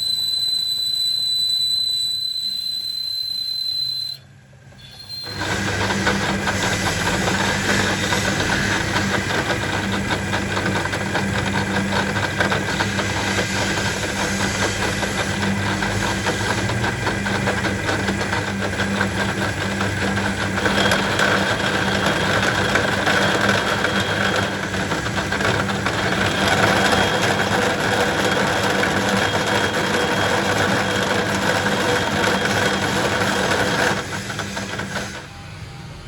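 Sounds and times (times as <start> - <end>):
machine humming and rattling: 4.5 - 36.0.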